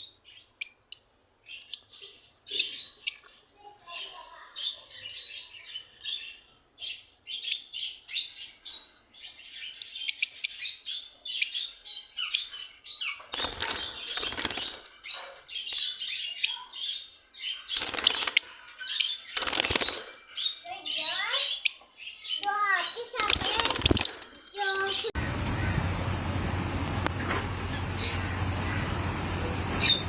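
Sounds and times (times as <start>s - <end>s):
lovebirds chirping: 0.0s - 30.0s.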